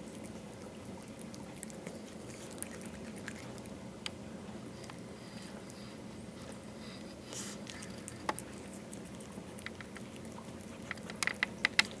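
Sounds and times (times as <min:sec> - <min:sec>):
cat chewing: 0:00.0 - 0:12.0.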